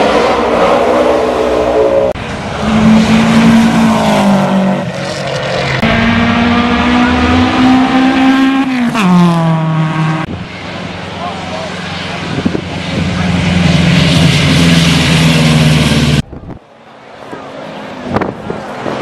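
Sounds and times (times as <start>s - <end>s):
racing car engines at high revs: 0.0s - 16.2s.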